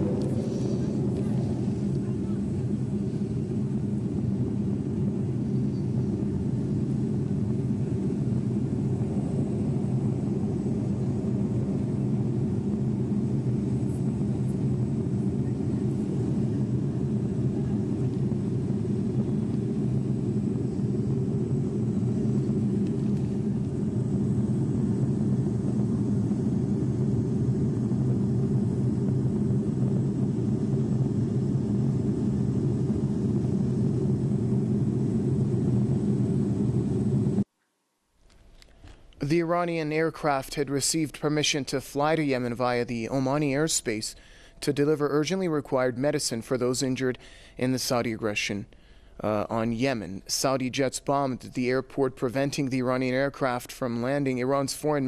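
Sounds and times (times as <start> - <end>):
aircraft cockpit engine drone: 0.0 - 37.5, 38.3 - 55.0.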